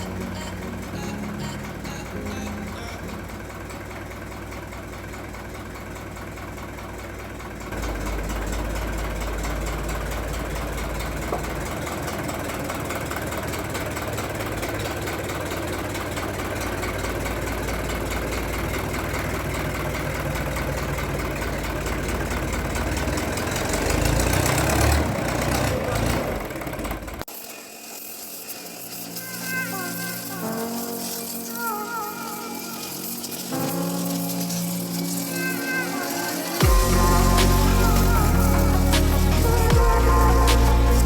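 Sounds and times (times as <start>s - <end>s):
tractor engine running: 0.0s - 27.3s, 33.0s - 41.0s.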